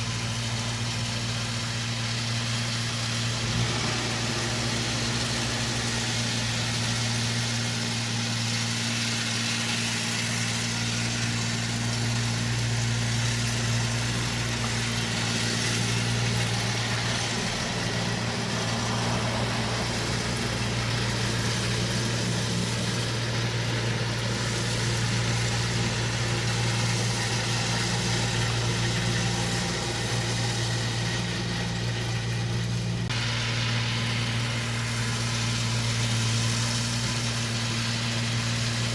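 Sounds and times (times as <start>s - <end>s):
farm machine engine running: 0.0s - 38.9s.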